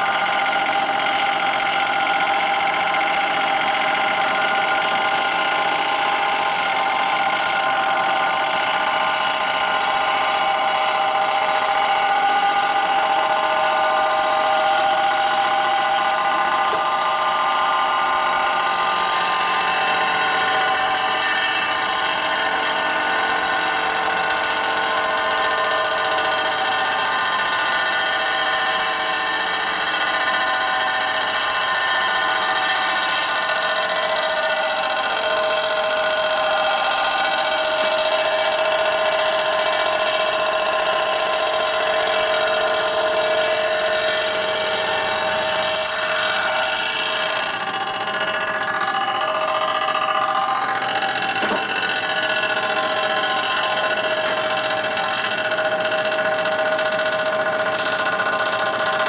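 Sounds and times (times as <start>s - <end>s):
shop machine motor whine: 0.0s - 59.0s.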